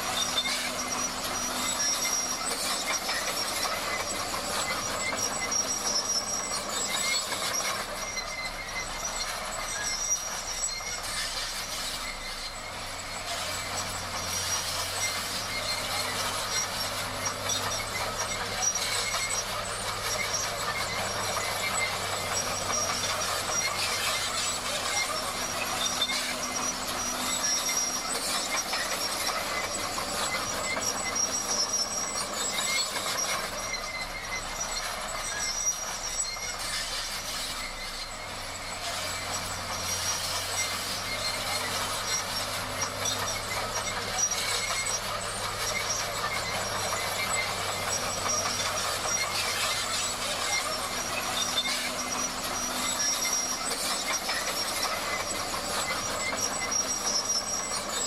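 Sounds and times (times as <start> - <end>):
diesel engine running: 0.0 - 58.0
steel tracks squealing and clattering: 0.0 - 58.0.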